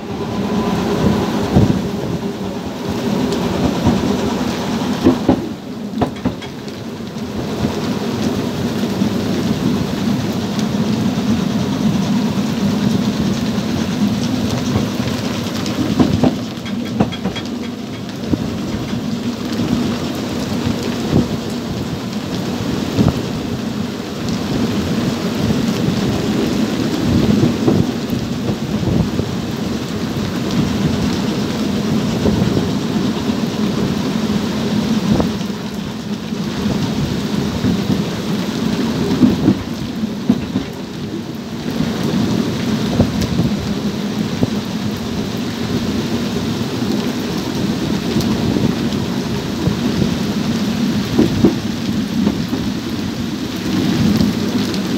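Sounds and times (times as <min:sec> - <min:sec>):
heavy rain: 0:00.0 - 0:54.9
train rolling rumble: 0:00.0 - 0:54.9.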